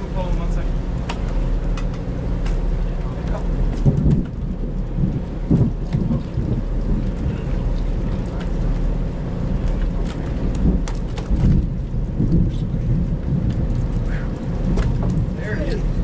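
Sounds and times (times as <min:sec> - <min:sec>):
heavy rain on a boat: 0:00.0 - 0:16.0.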